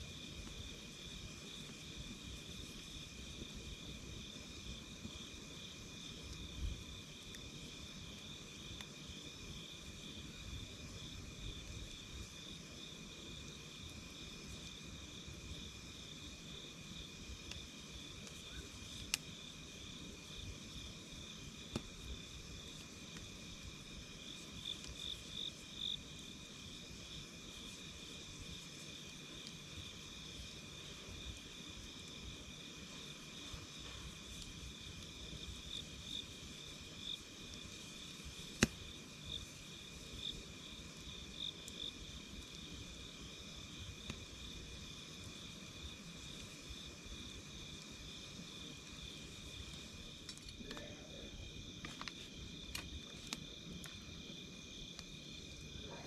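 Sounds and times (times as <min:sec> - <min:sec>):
campfire crackling and popping: 0:00.0 - 0:56.0
crickets trilling: 0:00.0 - 0:56.0.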